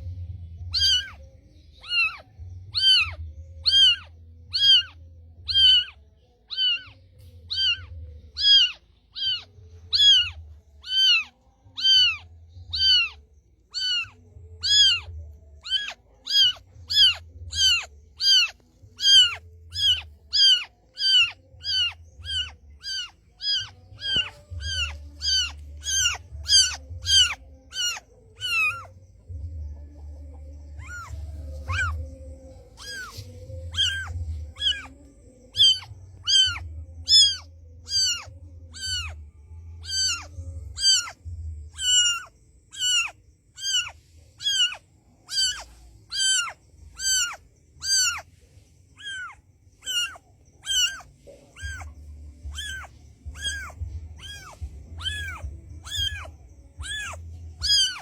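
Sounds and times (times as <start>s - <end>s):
cat meowing: 0.7s - 1.2s, 1.8s - 28.9s, 30.8s - 35.0s, 35.6s - 39.2s, 39.8s - 48.3s, 49.0s - 58.0s.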